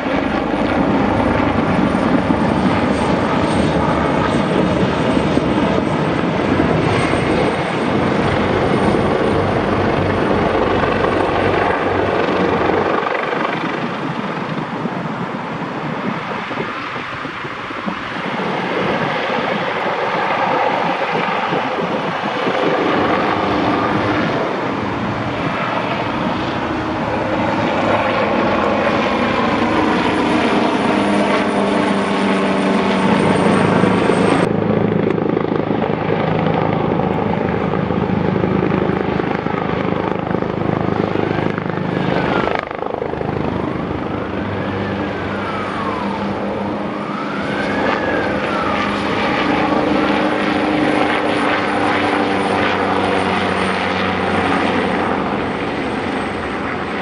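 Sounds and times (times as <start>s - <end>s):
helicopter flying overhead: 0.0s - 57.0s.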